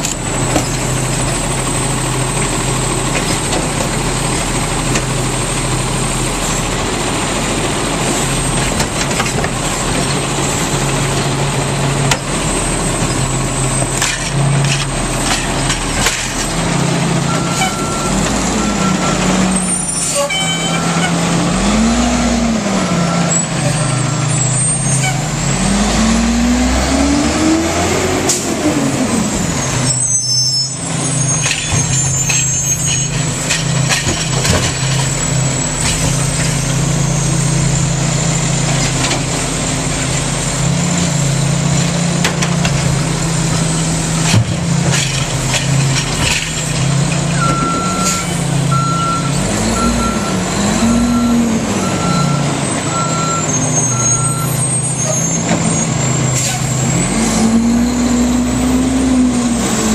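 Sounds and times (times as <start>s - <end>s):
garbage truck engine revving: 0.0s - 59.9s.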